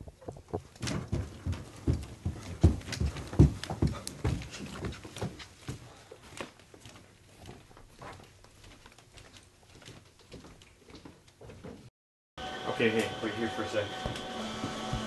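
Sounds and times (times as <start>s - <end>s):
footsteps across a floor: 0.0s - 11.9s, 14.0s - 15.0s
footsteps on staircase: 0.0s - 11.9s, 13.9s - 15.0s.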